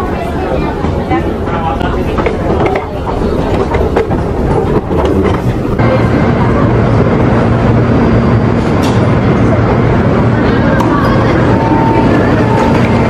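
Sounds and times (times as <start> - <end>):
train rumble with motor hum: 0.0 - 13.0.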